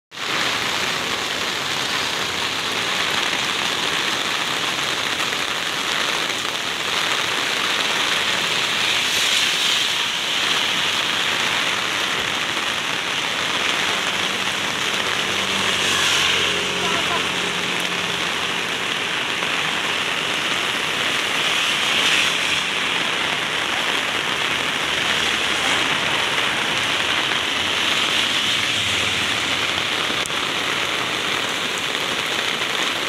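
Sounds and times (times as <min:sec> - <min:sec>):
heavy rain falling: 0:00.1 - 0:33.0.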